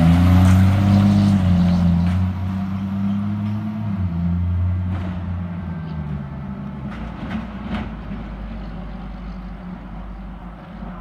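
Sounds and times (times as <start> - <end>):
fire engine diesel engine: 0.0 - 11.0.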